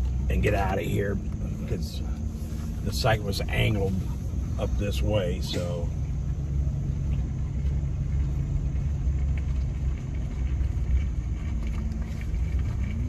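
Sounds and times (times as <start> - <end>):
truck engine rumbling from inside cab: 0.0 - 13.0.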